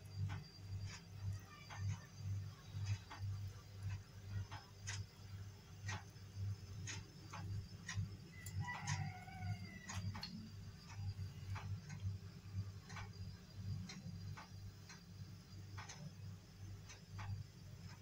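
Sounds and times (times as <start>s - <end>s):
clock ticking faintly: 0.0s - 18.0s
low steady hum: 0.0s - 18.0s.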